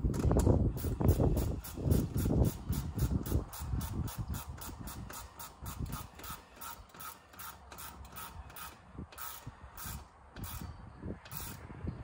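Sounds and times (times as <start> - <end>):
hand ratchet clicking: 0.1 - 11.6.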